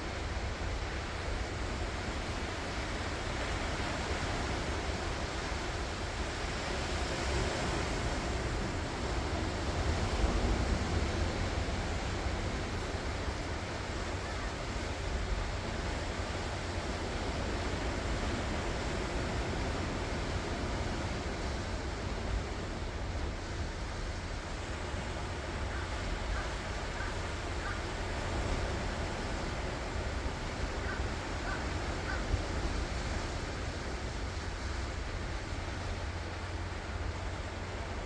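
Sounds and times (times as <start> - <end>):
waves washing onto shore: 0.0 - 38.0.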